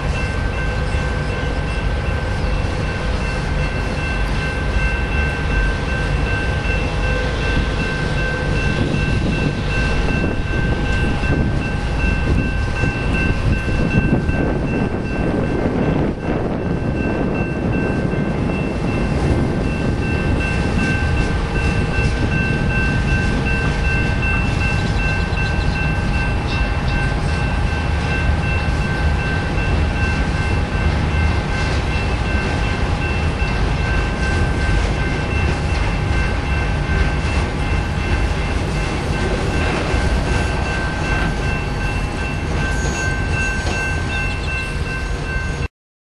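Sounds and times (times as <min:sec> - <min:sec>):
crossing signal bell ringing: 0:00.0 - 0:45.7
freight train wheels rumbling on rail: 0:00.0 - 0:45.7.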